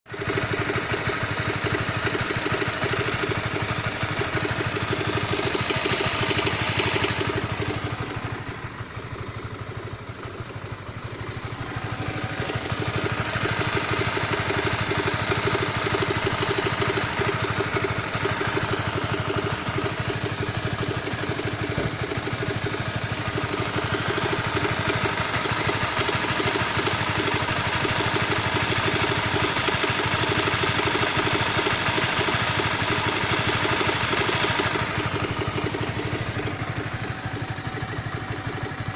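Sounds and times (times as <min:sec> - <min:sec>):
motorcycle engine running with rattle: 0:00.1 - 0:38.9.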